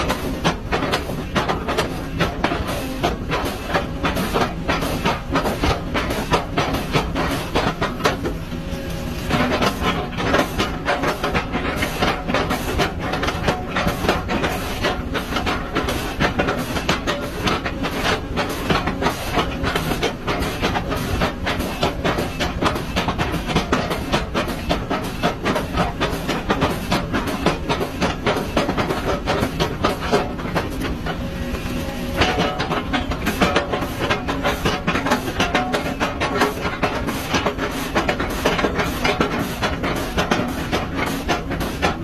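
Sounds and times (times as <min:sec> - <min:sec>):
rapid mechanical clatter: 0:00.0 - 0:42.0.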